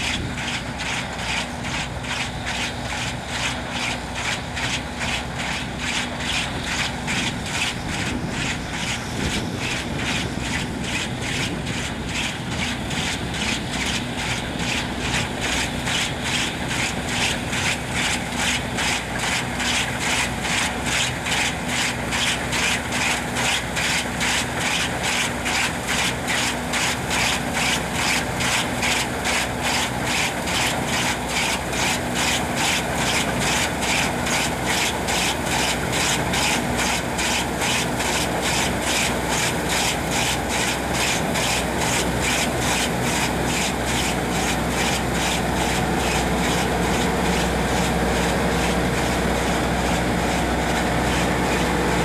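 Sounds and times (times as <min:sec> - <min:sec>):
combine harvester engine drone: 0:00.0 - 0:52.0.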